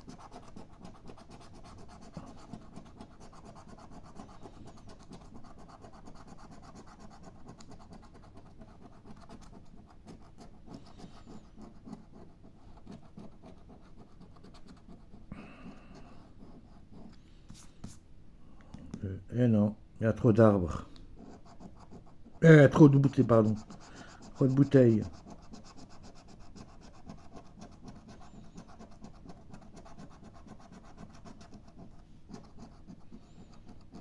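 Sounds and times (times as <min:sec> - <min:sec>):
scratching scratch card: 0:00.0 - 0:18.0, 0:21.2 - 0:34.0.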